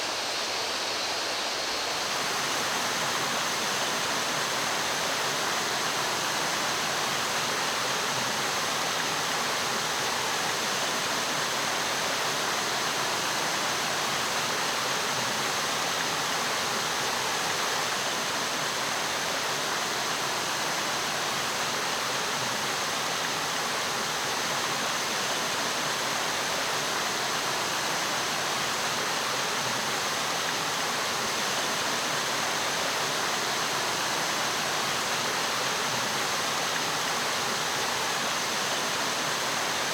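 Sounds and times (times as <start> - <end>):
water rushing in a stream: 0.0 - 39.9.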